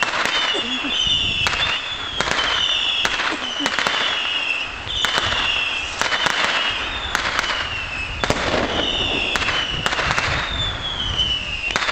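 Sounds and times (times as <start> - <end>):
firework cracks and pops: 0.0 - 11.9
fizzing firework fountains: 0.0 - 11.9
whistling fireworks: 0.0 - 11.9.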